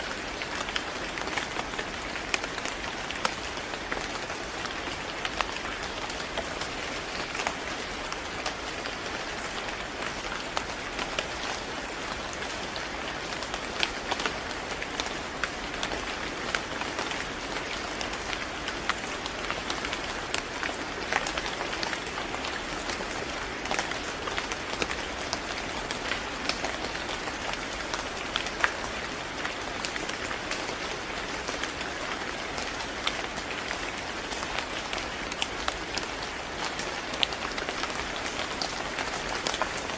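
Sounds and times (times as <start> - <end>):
rain hissing on hard surface: 0.0 - 39.9.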